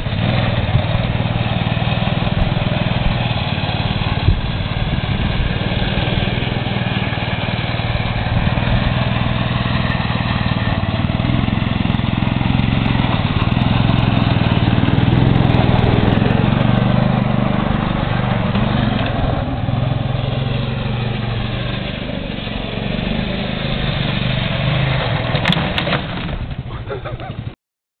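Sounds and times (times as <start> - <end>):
snowmobile engine running: 0.0 - 27.6.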